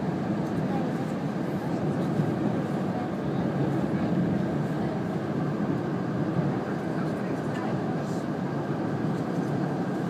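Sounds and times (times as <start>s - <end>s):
train running rumble inside car: 0.0s - 10.0s.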